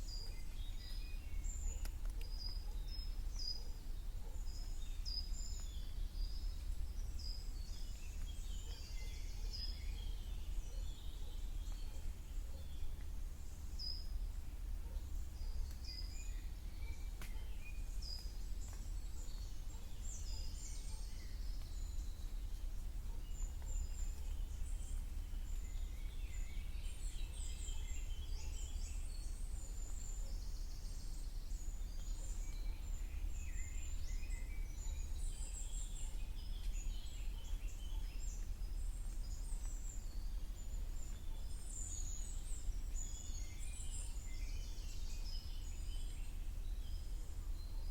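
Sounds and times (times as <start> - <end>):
songbirds chirping and trilling: 0.0 - 47.9.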